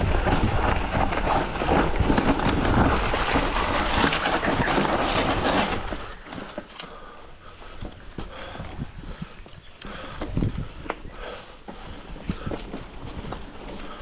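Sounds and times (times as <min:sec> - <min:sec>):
bike rattling: 0:00.0 - 0:14.0
bike tyres crunching on rocks: 0:00.0 - 0:14.0.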